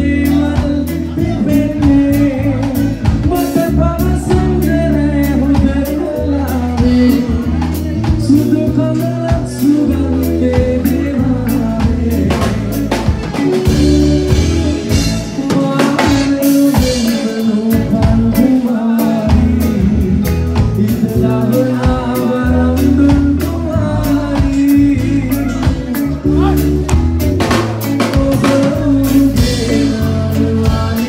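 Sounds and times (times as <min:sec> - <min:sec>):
bass line: 0:00.0 - 0:31.0
drum kit beat: 0:00.0 - 0:31.0
man singing into a microphone: 0:00.0 - 0:31.0.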